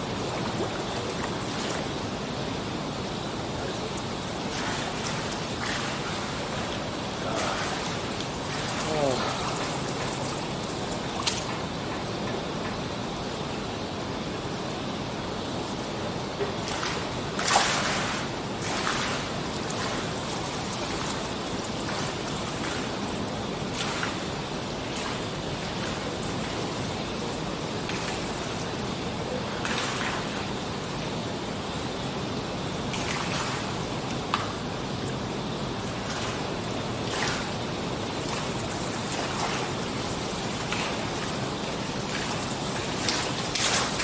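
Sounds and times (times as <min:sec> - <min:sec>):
water spilling over pool edge: 0:00.0 - 0:44.0.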